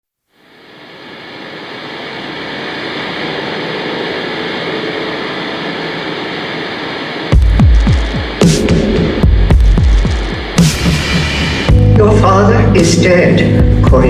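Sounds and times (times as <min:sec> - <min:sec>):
faint steady tones: 0:00.3 - 0:14.0
steady rushing noise: 0:00.3 - 0:14.0.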